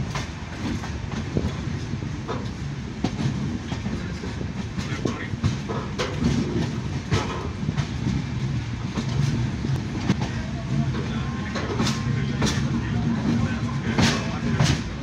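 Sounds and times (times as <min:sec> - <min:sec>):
train wheels rumbling on rails: 0:00.0 - 0:15.0
wheels clicking over rail joints: 0:00.0 - 0:15.0.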